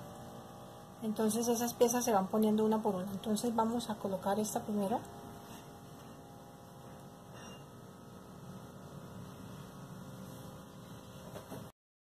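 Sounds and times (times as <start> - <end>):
faint electrical hum: 0.0 - 11.7.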